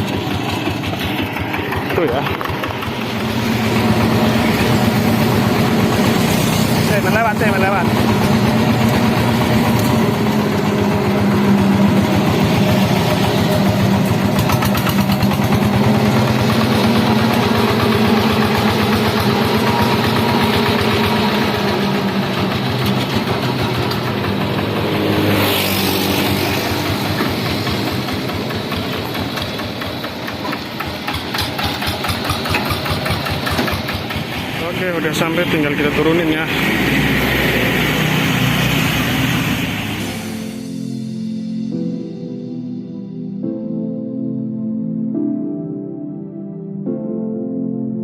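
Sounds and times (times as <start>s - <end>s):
diesel engine running: 0.0s - 41.4s.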